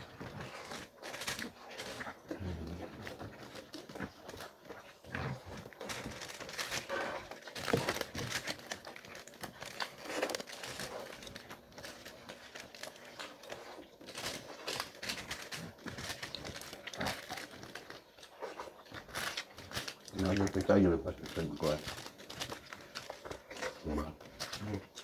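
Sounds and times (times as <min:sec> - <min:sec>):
food crunching: 0:00.0 - 0:25.0.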